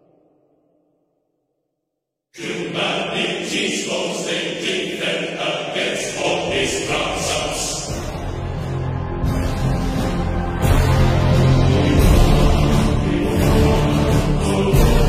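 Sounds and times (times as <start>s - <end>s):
choir singing: 2.4s - 15.0s
pulsing accompaniment: 2.4s - 15.0s.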